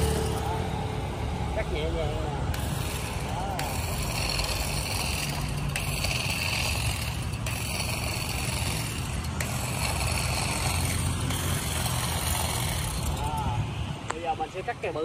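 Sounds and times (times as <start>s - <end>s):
cordless grass shears whining: 0.0s - 14.6s.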